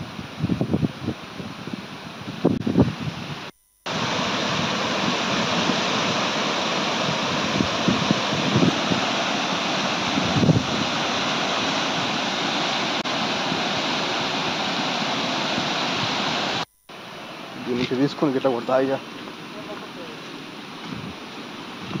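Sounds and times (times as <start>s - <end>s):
waterfall rushing over rocks: 3.2s - 22.0s.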